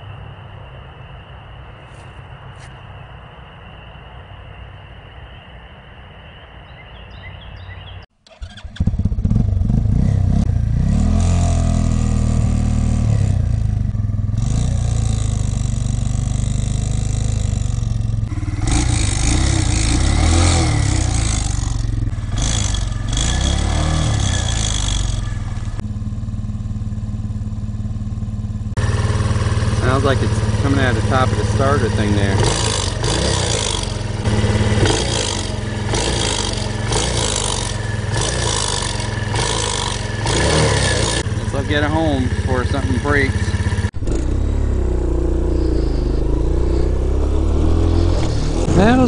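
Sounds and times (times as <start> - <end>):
motorcycle engine revving: 8.2 - 49.0.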